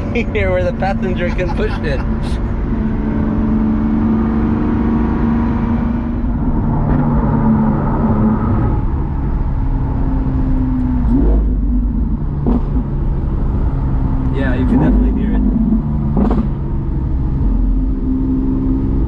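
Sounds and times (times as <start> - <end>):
car engine running: 0.0 - 4.6, 5.7 - 19.0.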